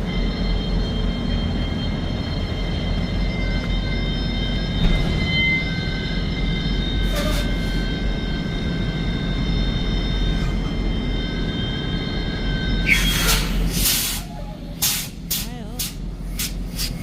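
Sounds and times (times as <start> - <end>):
constant tones: 0.0 - 16.9
truck engine and road rumble: 0.0 - 17.0.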